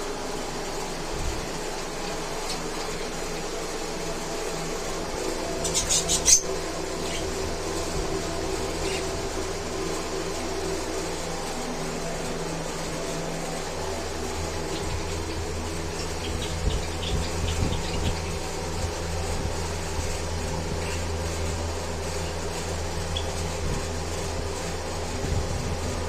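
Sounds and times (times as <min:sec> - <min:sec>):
small motor humming: 0:00.0 - 0:26.0.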